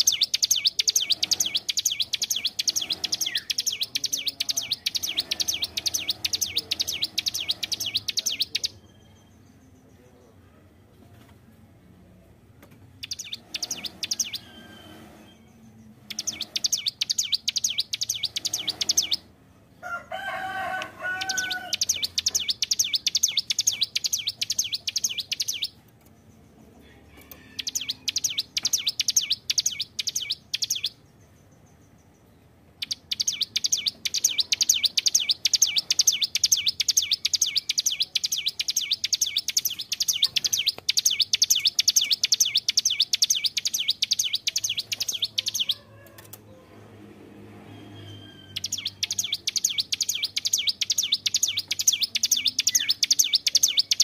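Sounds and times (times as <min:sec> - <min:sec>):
songbird fast high chirping: 0:00.0 - 0:10.2, 0:13.0 - 0:19.3, 0:21.1 - 0:45.9, 0:47.8 - 0:54.0.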